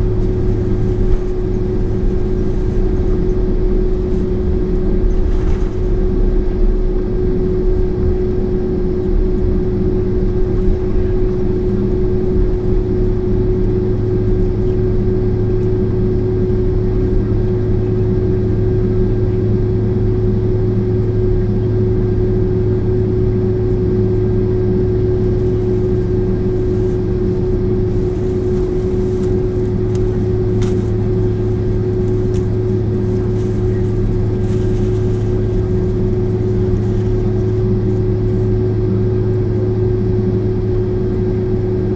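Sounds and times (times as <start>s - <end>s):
jet engines droning in cabin: 0.0s - 41.9s.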